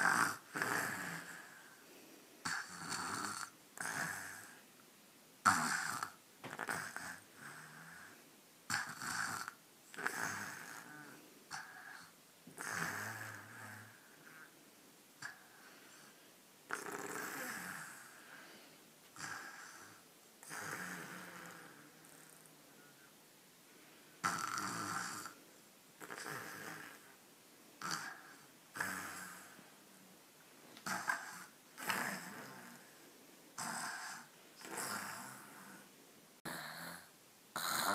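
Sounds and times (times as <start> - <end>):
child snoring: 0.0 - 1.8, 2.4 - 4.6, 5.4 - 14.5, 15.2 - 18.6, 19.2 - 23.1, 24.2 - 25.4, 26.0 - 27.2, 27.8 - 29.7, 30.8 - 33.0, 33.6 - 37.9.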